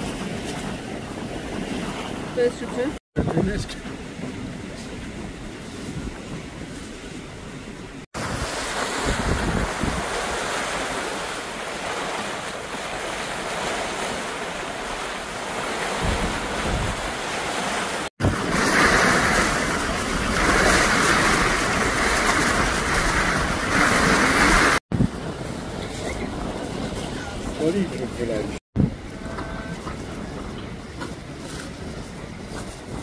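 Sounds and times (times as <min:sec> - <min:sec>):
sea noise: 0:00.0 - 0:33.0
wind buffeting microphone: 0:00.0 - 0:33.0.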